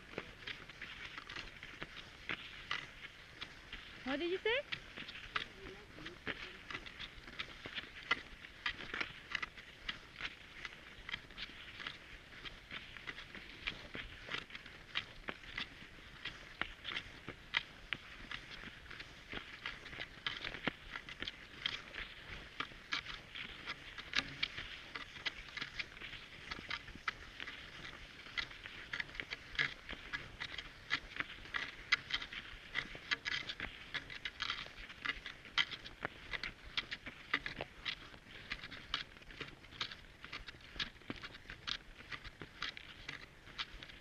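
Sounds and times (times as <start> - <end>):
skis and poles crunching snow: 0.0 - 44.0.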